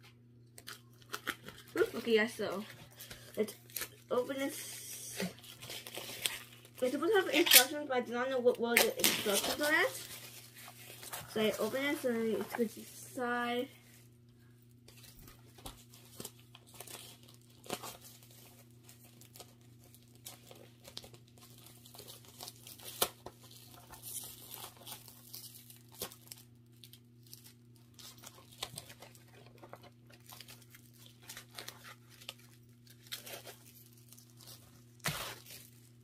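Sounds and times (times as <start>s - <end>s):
plastic wrapping crinkling and tearing: 0.6s - 36.0s.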